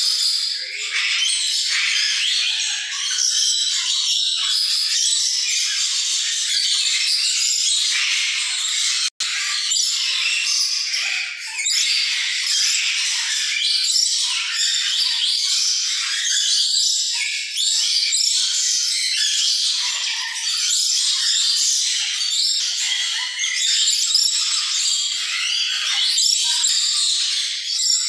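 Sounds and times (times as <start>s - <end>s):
birds chirping and chattering: 0.0s - 28.0s.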